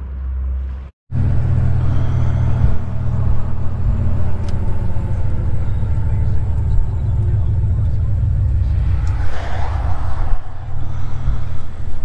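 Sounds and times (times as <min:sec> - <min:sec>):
vehicle engine and road drone: 0:00.0 - 0:12.0.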